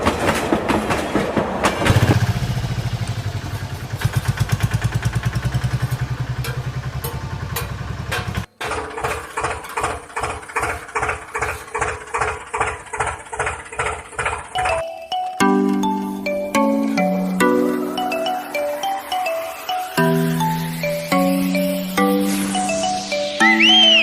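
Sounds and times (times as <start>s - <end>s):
diesel tractor engine running: 1.8s - 24.0s.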